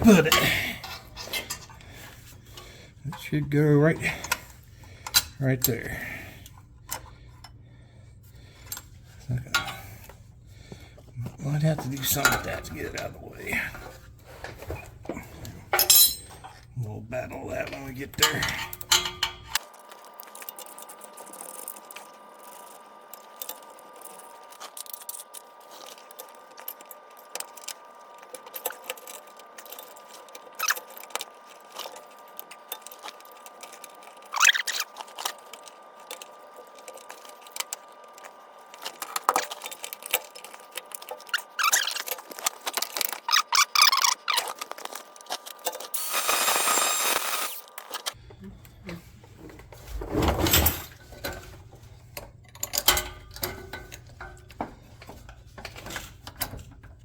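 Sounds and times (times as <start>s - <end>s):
metal tools clinking and rattling: 0.0s - 7.6s, 8.6s - 10.2s, 11.0s - 19.7s, 20.4s - 45.9s, 48.8s - 57.0s.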